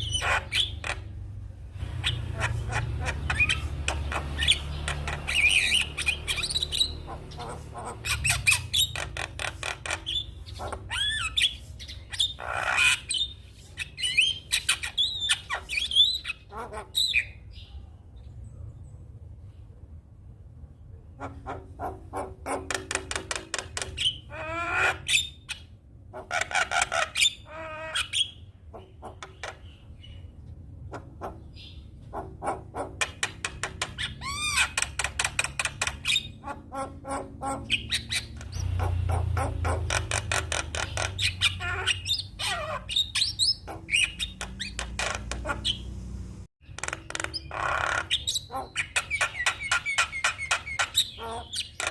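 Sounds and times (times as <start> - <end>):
myna bird singing: 0.0 - 19.8, 20.7 - 51.9.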